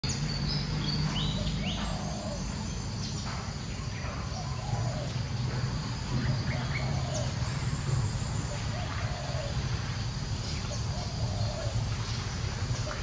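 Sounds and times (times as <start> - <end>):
insects droning: 0.1 - 13.0.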